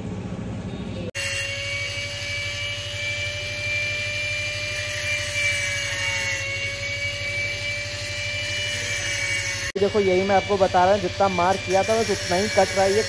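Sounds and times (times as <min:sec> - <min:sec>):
angle grinder cutting steel: 0:01.2 - 0:13.0.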